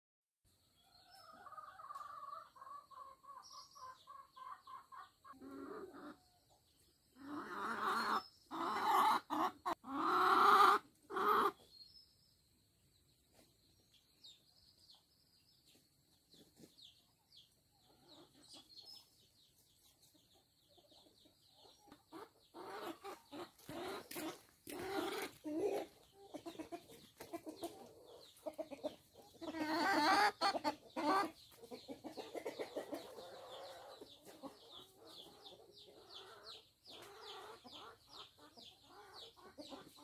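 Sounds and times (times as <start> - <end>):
chickens clucking and calling: 0.5 - 40.0.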